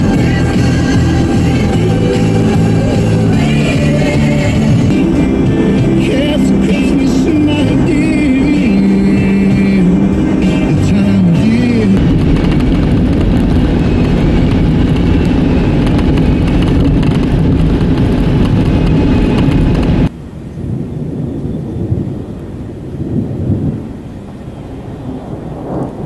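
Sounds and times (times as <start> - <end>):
low outdoor rumble: 0.0 - 26.0
tyre and road noise on wet highway: 0.0 - 26.0.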